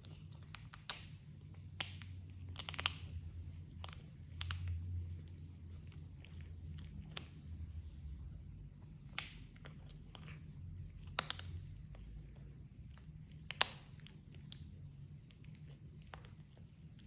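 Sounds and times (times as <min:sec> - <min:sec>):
cat crunching dried treat: 0:00.0 - 0:17.0.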